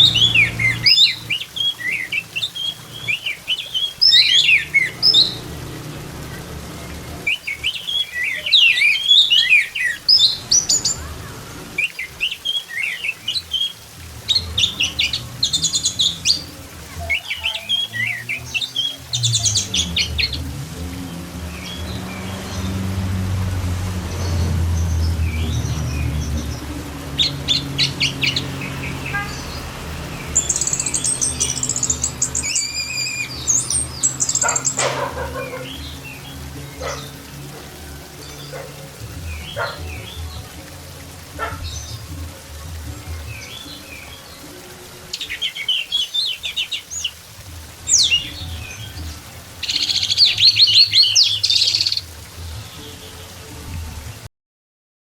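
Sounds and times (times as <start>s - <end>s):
thrush singing: 0.0s - 54.3s.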